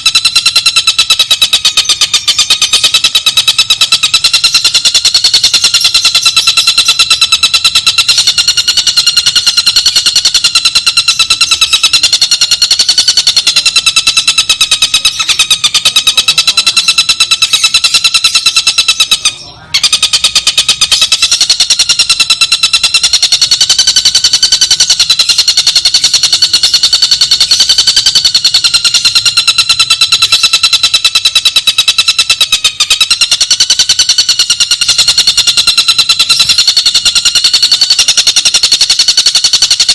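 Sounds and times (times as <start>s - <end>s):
bird's fast buzzing trill: 0.0s - 39.9s.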